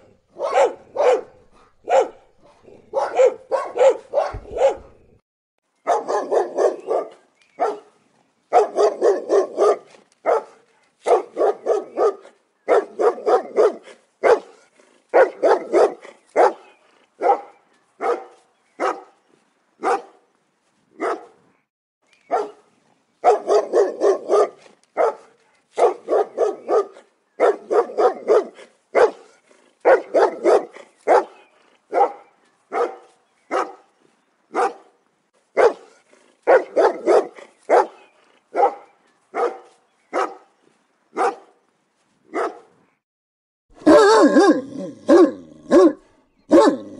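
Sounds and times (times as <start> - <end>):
dog barking: 0.0 - 5.0, 5.9 - 7.9, 8.5 - 19.1, 19.8 - 20.2, 21.0 - 21.4, 22.3 - 33.9, 34.5 - 34.9, 35.6 - 40.5, 41.2 - 41.6, 42.3 - 42.7, 43.8 - 46.9.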